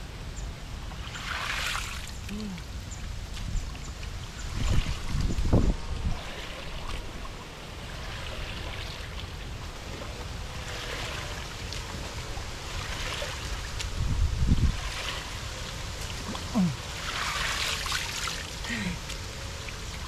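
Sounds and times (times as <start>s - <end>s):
muddy water splashing: 1.0s - 20.0s.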